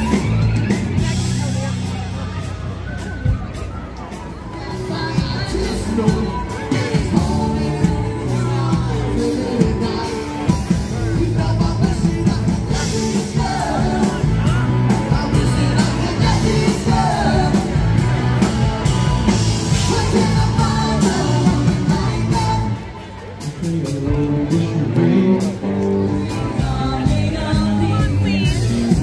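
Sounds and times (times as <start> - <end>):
live band playing: 0.0 - 29.0
person singing: 4.5 - 29.0.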